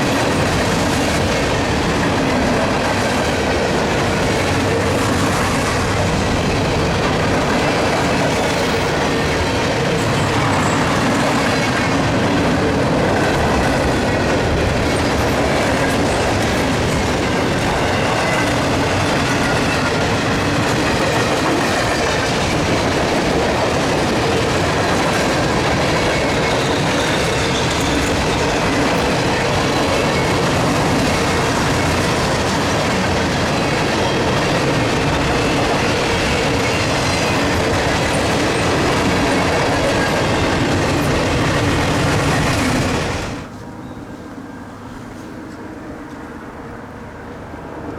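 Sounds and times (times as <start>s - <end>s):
freight train cars rolling past: 0.0s - 47.9s.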